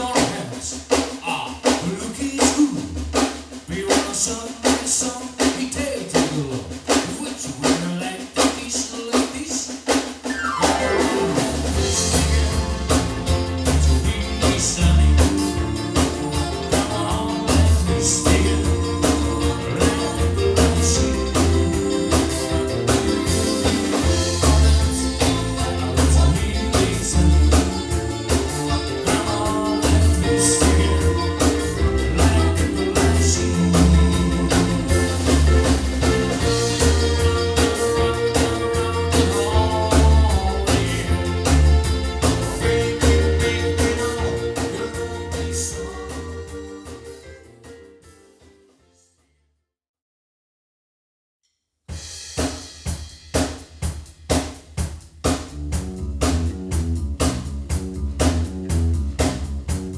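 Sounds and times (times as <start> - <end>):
bass and drums beat: 0.0 - 48.0, 51.9 - 59.9
live band playing with vocals: 0.0 - 48.4.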